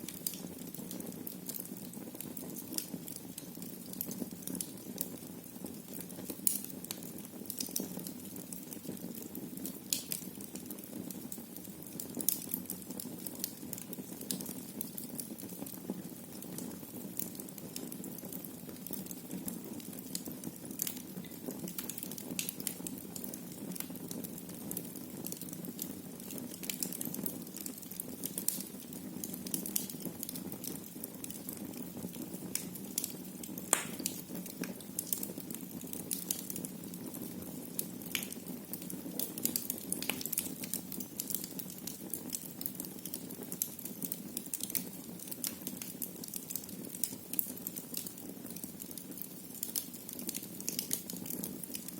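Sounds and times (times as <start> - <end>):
fire crackles and pops: 0.0 - 51.9.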